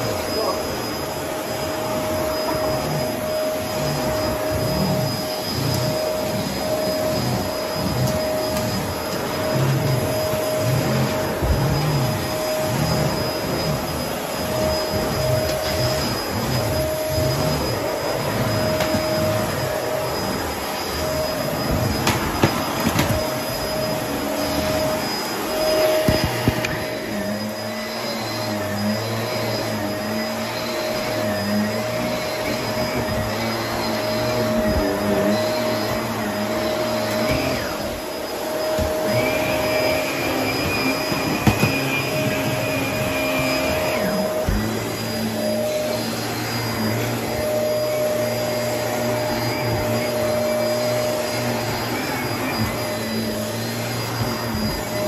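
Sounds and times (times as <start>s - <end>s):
high whine: 0.0s - 55.0s
vacuum cleaner running: 0.0s - 55.0s.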